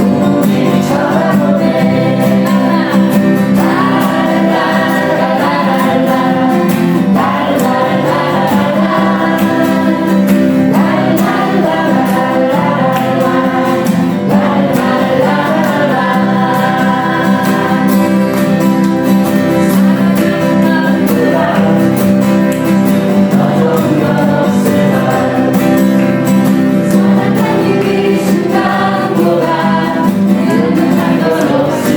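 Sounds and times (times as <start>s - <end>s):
group of voices singing: 0.0s - 31.9s
instrumental accompaniment: 0.0s - 31.9s.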